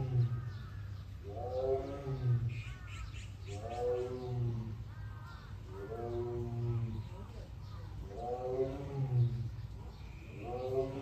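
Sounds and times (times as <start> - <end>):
tiger calling: 0.0 - 11.0.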